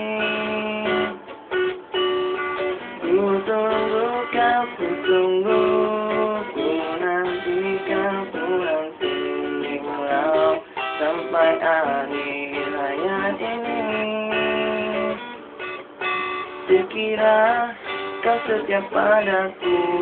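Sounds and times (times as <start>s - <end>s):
acoustic guitar song: 0.0s - 20.0s.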